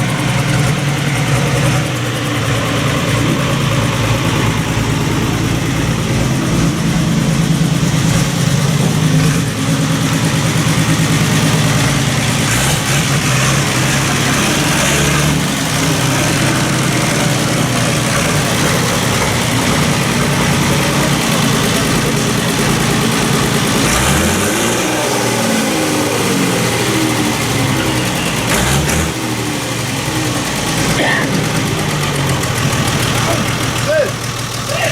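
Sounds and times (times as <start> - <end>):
tractor engine revving: 0.0 - 34.9
tractor engines running: 0.0 - 34.9.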